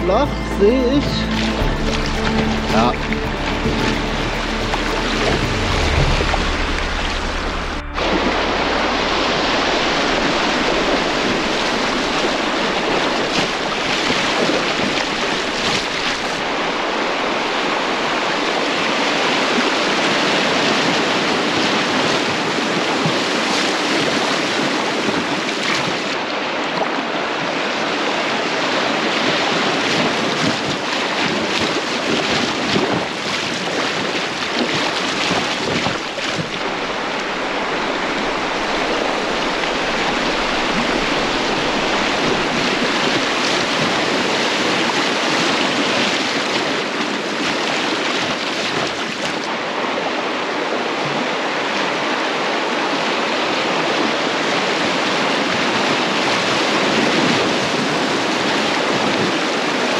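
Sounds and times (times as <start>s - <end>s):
river water rushing: 0.0s - 59.9s
wind on microphone: 1.0s - 59.9s.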